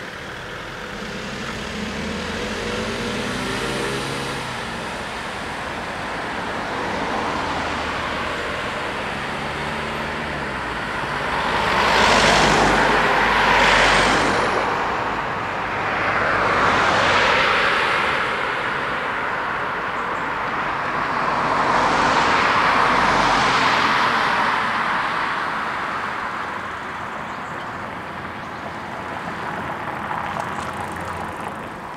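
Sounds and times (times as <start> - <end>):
cars passing by: 0.0 - 31.9.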